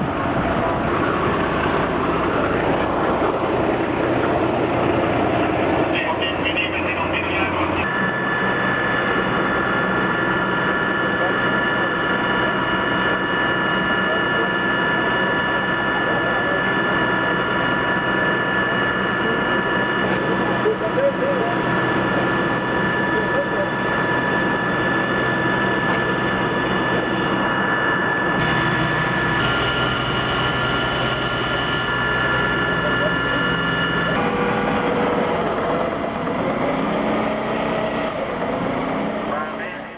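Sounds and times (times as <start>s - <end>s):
fire engine diesel drone: 0.0s - 39.9s
steady whining tones: 0.0s - 39.9s.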